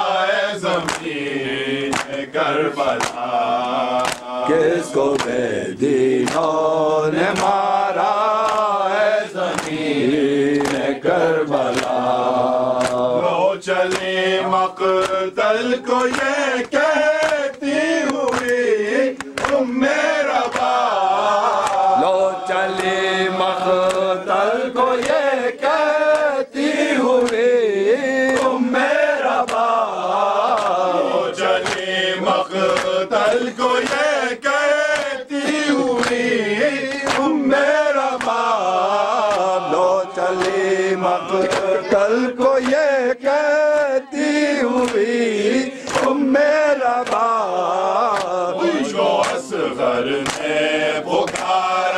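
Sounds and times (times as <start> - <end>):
men chanting a lament: 0.0 - 51.9
hands slapping chests: 0.7 - 51.9.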